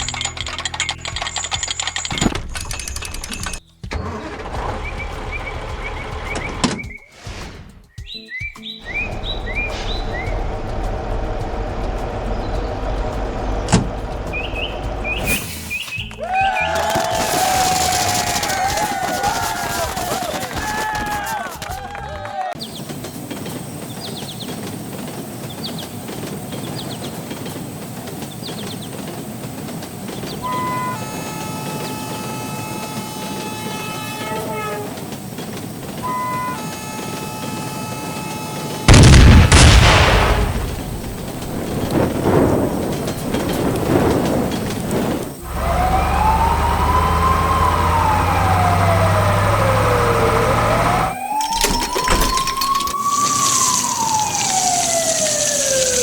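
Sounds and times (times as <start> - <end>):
engine hum: 0.0 - 7.8, 8.8 - 56.0
vehicle rumbling: 0.0 - 7.9, 8.8 - 56.0.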